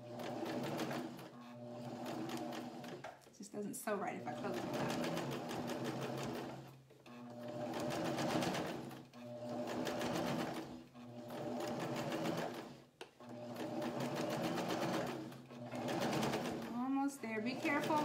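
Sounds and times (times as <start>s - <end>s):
electric sewing machine running: 0.0s - 3.2s, 4.0s - 18.0s.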